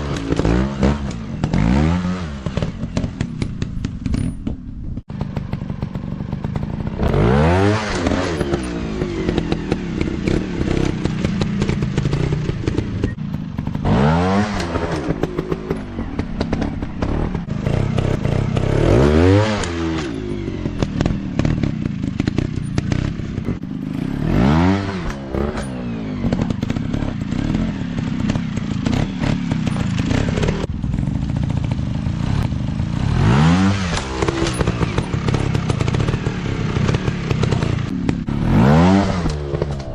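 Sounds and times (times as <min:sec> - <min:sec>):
dirt bike engine revving: 0:00.0 - 0:04.3, 0:05.0 - 0:39.9.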